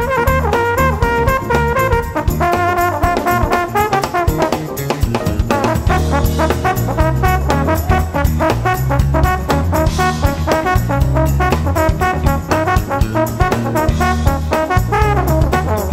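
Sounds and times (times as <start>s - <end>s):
busy drum kit: 0.0s - 15.9s
electric bass: 0.0s - 15.9s
electric piano: 0.0s - 15.9s
saxophone: 0.0s - 15.9s
trombone: 0.0s - 15.9s.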